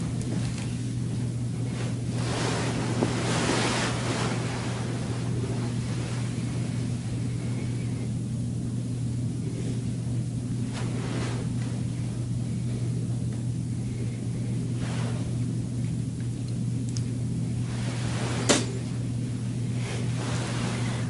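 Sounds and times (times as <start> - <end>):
low electrical hum: 0.0 - 21.0
room noise hiss: 0.0 - 21.0.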